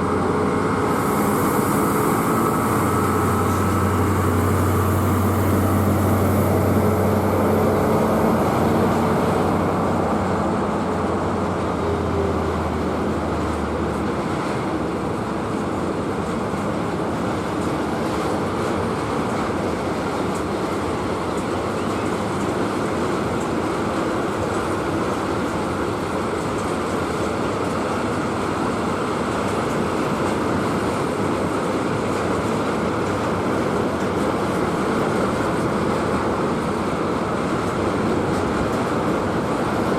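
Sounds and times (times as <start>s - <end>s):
diesel locomotive engine droning: 0.0s - 39.9s
train wheels on rail: 0.0s - 39.9s.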